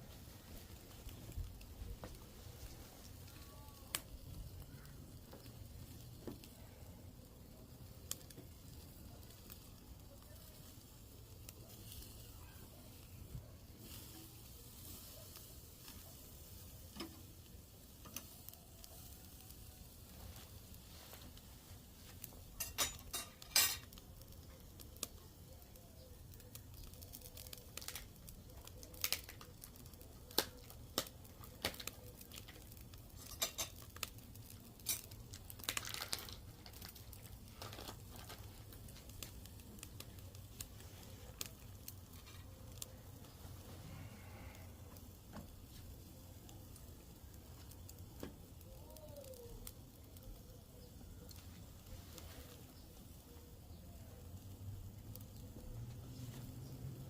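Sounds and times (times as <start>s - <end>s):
meat sizzling on a grill: 0.0s - 57.0s.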